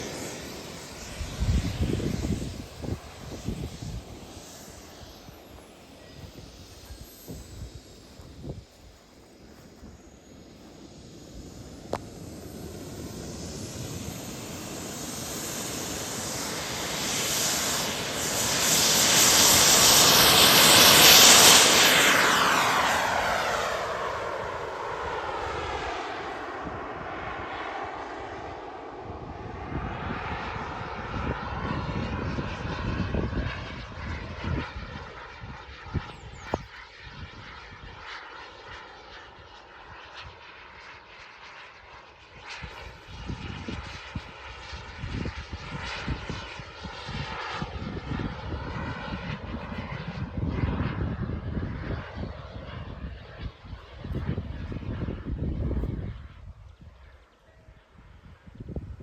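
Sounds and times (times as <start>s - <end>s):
jet turbine engine whining: 0.0s - 59.0s.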